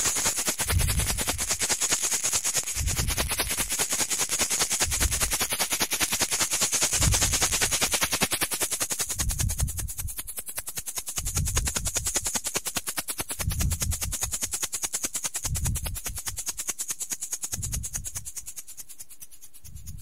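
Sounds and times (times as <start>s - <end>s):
steady high hiss: 0.0s - 19.3s
sharp rattling clicks: 0.0s - 20.0s.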